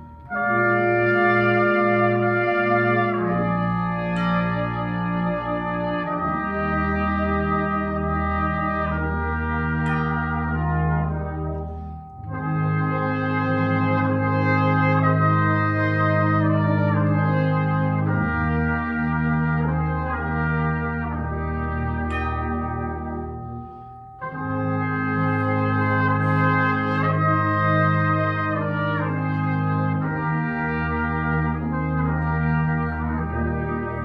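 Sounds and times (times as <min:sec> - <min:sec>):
brass band playing chords: 0:00.0 - 0:34.0.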